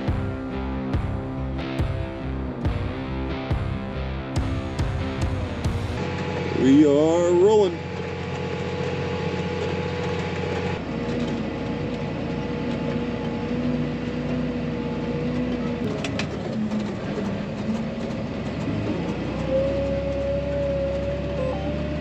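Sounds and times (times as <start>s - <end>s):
tractor engine humming: 0.0s - 22.0s.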